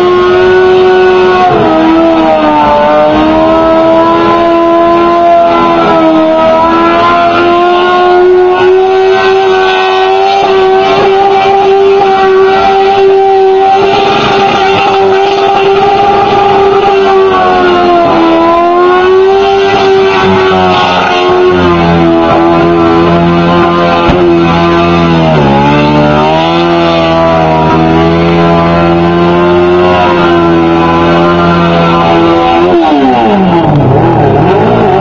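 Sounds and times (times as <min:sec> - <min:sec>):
quad bike engine high revs: 0:00.0 - 0:35.0.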